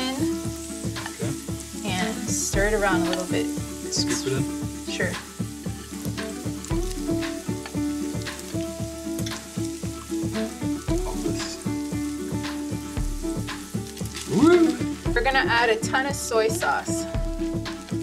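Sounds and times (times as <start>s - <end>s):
rice sizzling in a pan: 0.0s - 18.0s.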